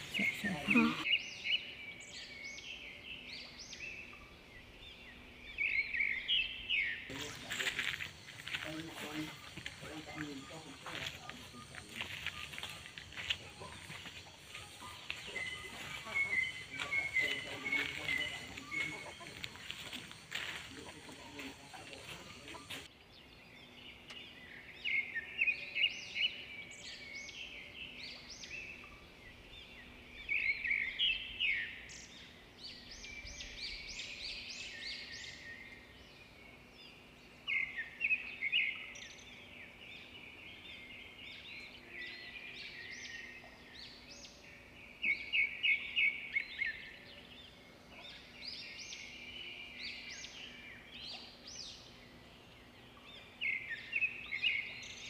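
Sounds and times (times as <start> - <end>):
birds chirping: 0.0 - 55.0
faint low hum: 0.0 - 55.0.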